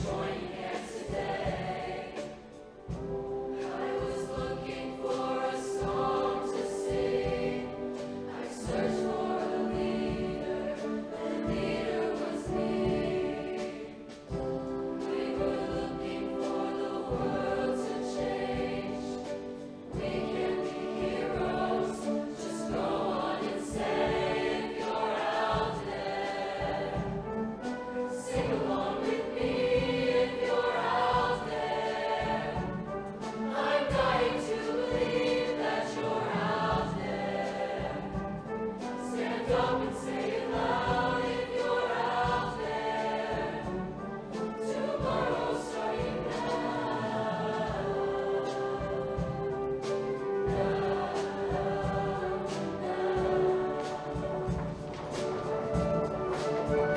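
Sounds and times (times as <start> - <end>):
choir singing in harmony: 0.0 - 56.9
instrumental accompaniment: 0.0 - 56.9.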